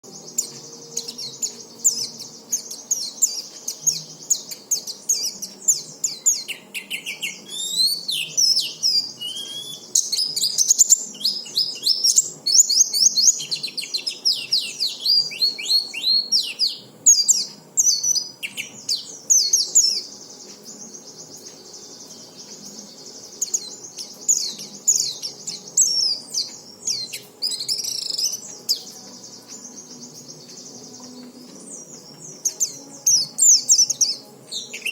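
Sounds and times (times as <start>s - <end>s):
bird twittering song: 0.0s - 34.9s.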